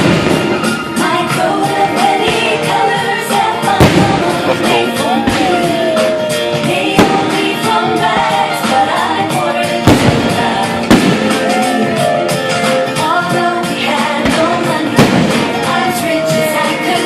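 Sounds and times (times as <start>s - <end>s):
fireworks bursting: 0.0s - 17.0s
show music with sung melody: 0.0s - 17.0s.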